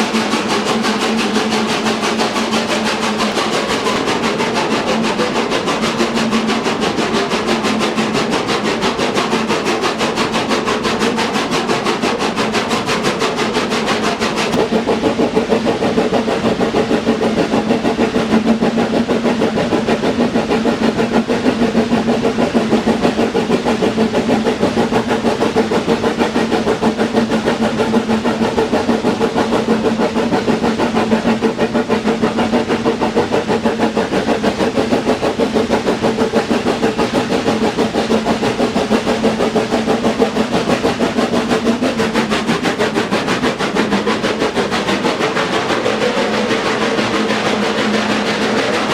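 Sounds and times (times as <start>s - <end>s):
train machine drone: 0.0s - 48.9s.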